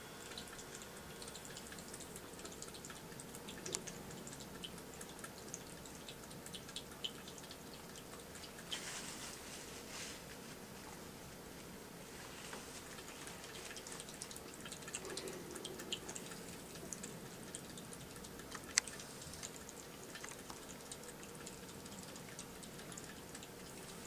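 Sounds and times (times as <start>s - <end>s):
cat lapping water: 0.3s - 9.5s, 12.6s - 24.0s.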